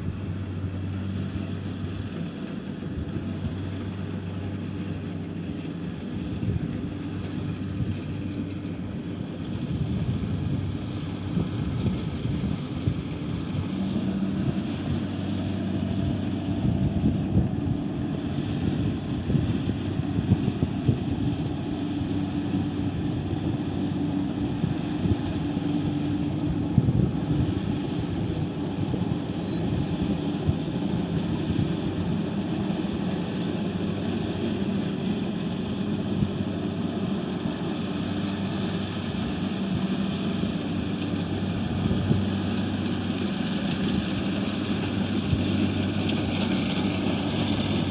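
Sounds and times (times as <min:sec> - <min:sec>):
harvester engine humming: 0:00.0 - 0:47.9.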